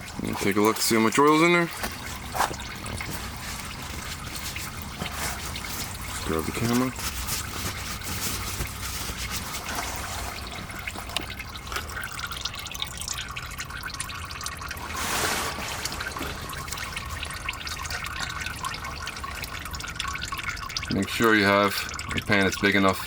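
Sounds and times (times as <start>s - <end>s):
oil splash: 0.0s - 20.8s
oil trickling into a drain pan: 0.0s - 23.0s.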